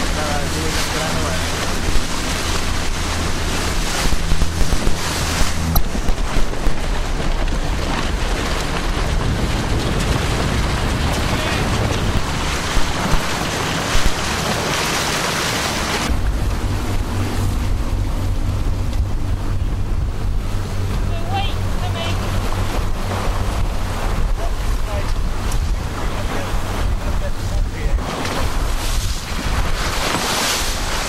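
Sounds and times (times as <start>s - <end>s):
rushing water and spray: 0.0s - 31.0s
wind buffeting microphone: 0.0s - 31.0s.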